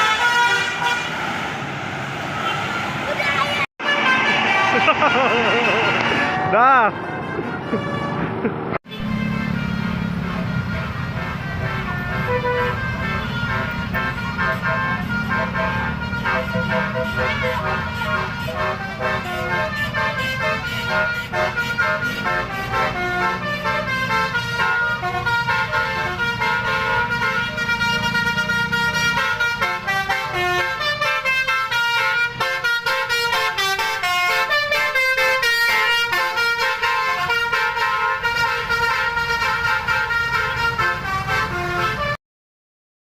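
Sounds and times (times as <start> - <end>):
multi-note bus horn tune: 0.0 - 1.3, 2.4 - 42.2.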